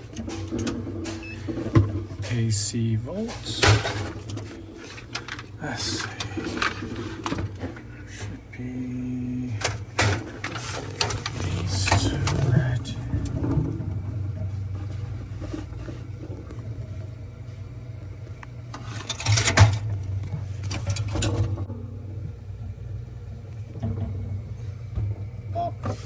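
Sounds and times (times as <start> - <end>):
refrigerator humming: 0.0 - 26.0.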